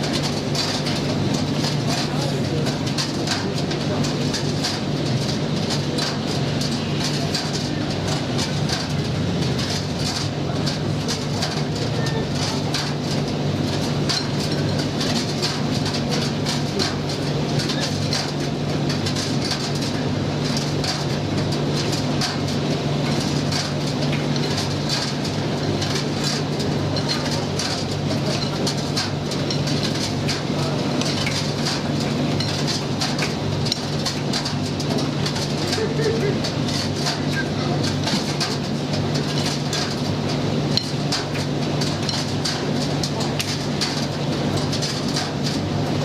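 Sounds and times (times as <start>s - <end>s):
clatter of tumbling load: 0.0s - 46.0s.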